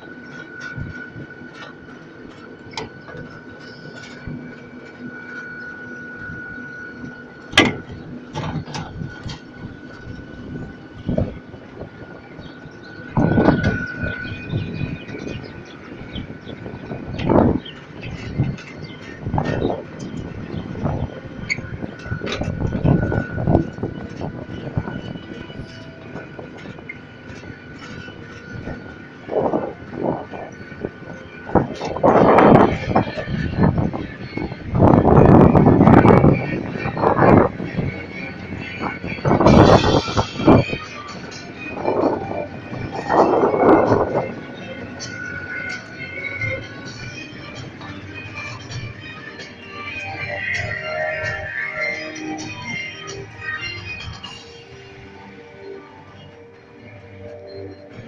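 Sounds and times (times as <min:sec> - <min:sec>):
ride train humming: 0:00.0 - 0:58.0.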